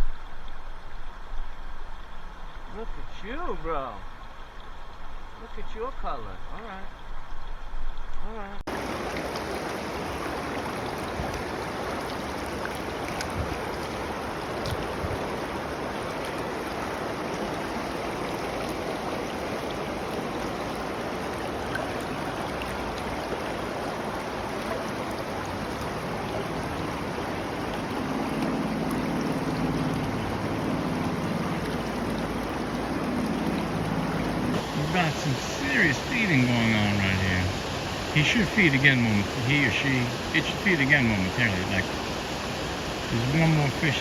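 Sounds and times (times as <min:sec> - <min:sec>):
stream water rushing: 0:00.0 - 0:44.0.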